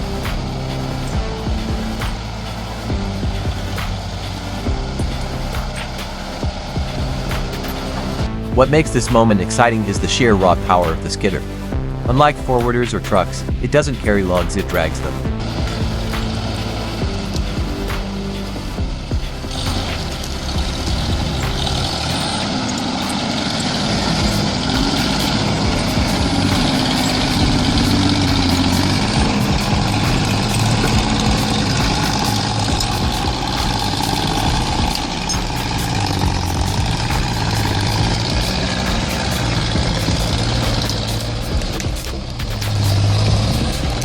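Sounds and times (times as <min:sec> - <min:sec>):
diesel engine running steadily: 0:00.0 - 0:12.1, 0:13.8 - 0:44.0.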